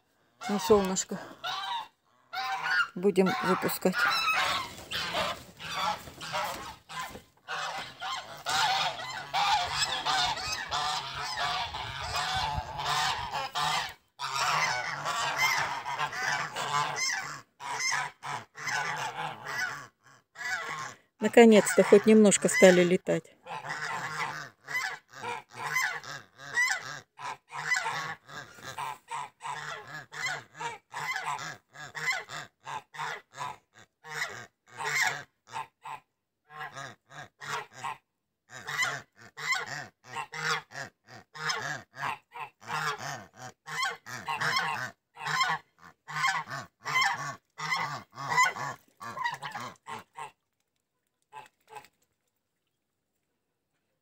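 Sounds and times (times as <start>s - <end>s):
geese honking: 0.4s - 22.9s, 23.5s - 33.2s, 38.5s - 50.3s.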